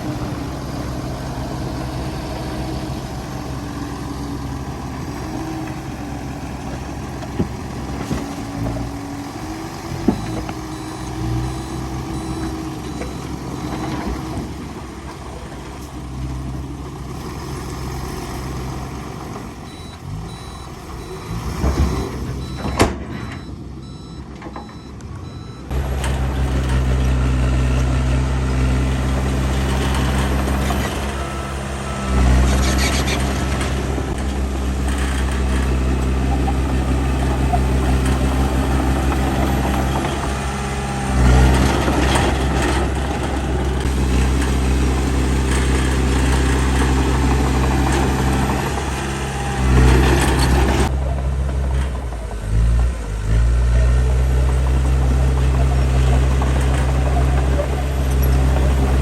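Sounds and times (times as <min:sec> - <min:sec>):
truck reversing alarm beeping: 0:00.0 - 0:15.5, 0:19.5 - 0:26.7, 0:29.3 - 0:59.0
heavy diesel machinery running: 0:00.0 - 0:59.0.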